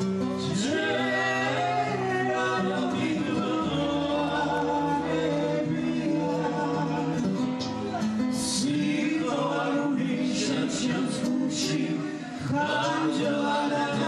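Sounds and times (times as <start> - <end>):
acoustic guitar: 0.0 - 14.0
people singing in harmony: 0.0 - 14.0.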